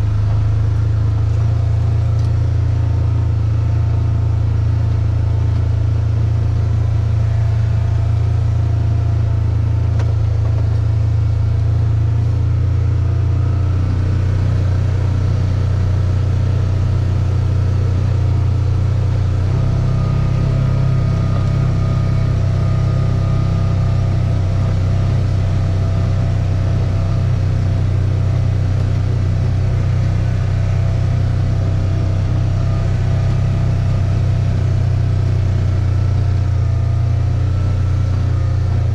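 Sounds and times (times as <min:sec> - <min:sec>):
engine running with low hum: 0:00.0 - 0:38.9.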